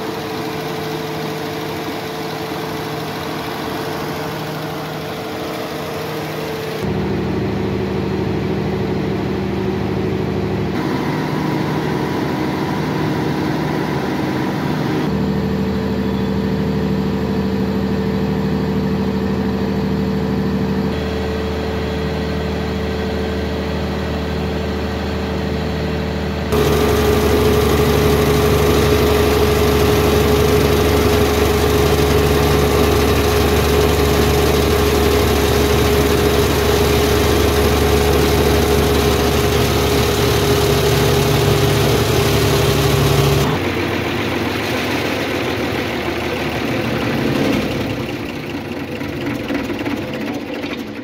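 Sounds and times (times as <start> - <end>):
diesel generator running: 0.0 - 51.0.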